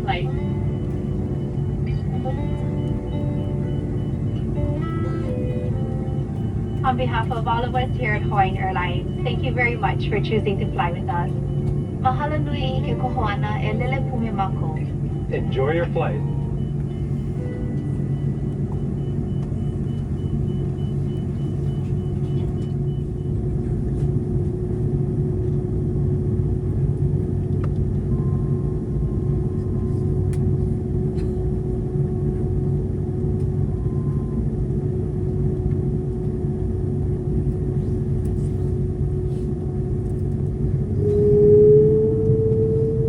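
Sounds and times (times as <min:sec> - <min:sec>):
jet engine whine: 0:00.0 - 0:43.0
low cabin rumble: 0:00.0 - 0:43.0.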